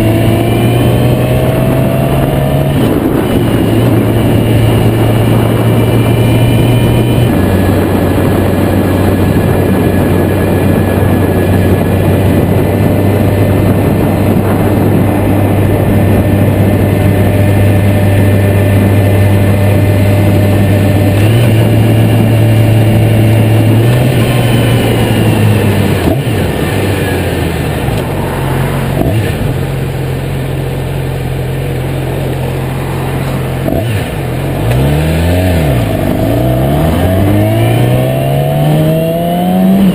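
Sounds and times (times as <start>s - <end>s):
wind noise on microphone: 0.0s - 30.8s, 31.7s - 39.9s
motorcycle engine cruising: 0.0s - 39.9s.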